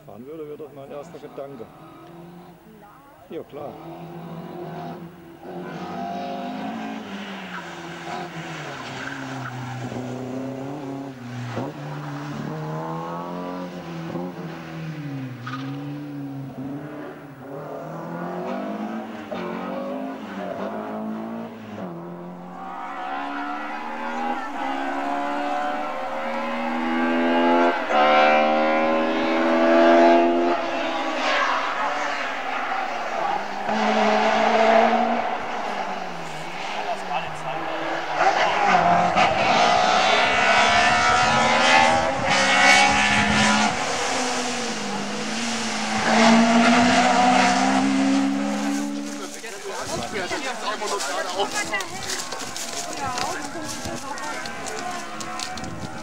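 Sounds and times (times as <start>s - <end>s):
rally car accelerating hard: 0.0s - 2.7s, 3.4s - 56.0s
car engine revving: 0.0s - 56.0s.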